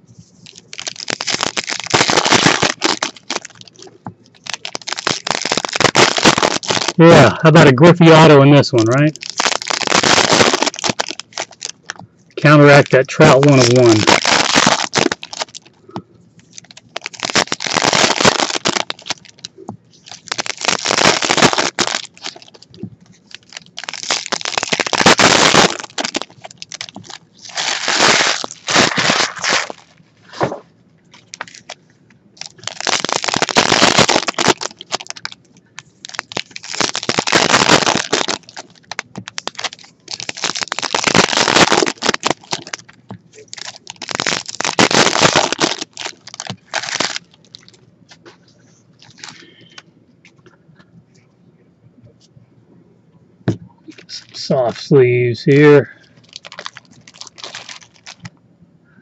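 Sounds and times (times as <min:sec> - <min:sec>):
foil wrappers crinkling and tearing: 0:00.2 - 0:15.8, 0:16.4 - 0:31.8, 0:32.4 - 0:49.8, 0:55.5 - 0:58.3.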